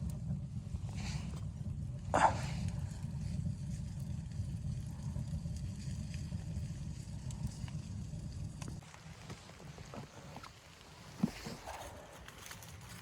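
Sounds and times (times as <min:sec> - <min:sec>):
small clicks and crackles: 0:02.4 - 0:13.0.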